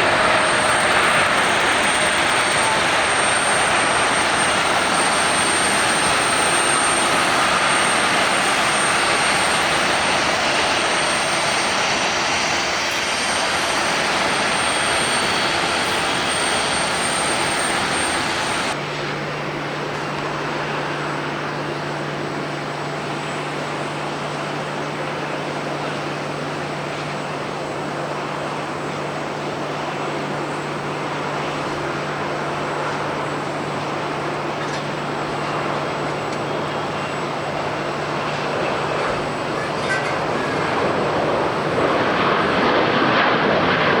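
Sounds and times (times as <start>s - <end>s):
jet engines running: 0.0s - 44.0s.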